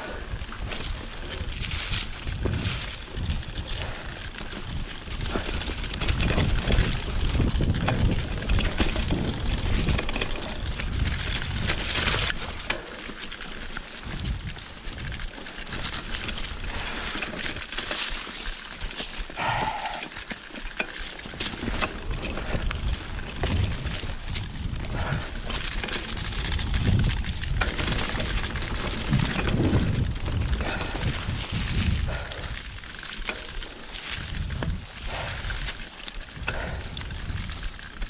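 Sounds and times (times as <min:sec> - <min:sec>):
wind rumble on microphone: 0:00.0 - 0:12.9, 0:13.5 - 0:17.6, 0:18.8 - 0:20.3, 0:21.2 - 0:38.0
bike rattling over bumps: 0:00.0 - 0:38.0
tyres crunching leaves and stones: 0:00.0 - 0:38.0.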